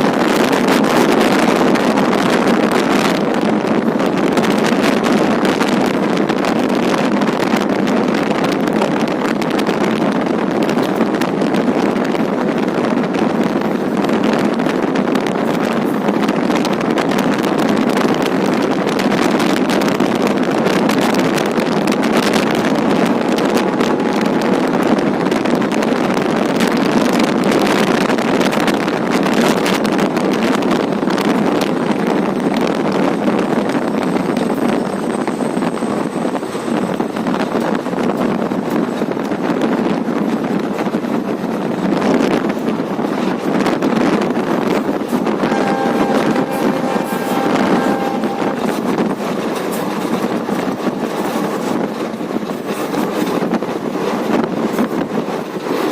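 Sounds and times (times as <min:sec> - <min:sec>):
fast train running noise: 0:00.0 - 0:55.9
wind buffeting microphone: 0:00.0 - 0:55.9.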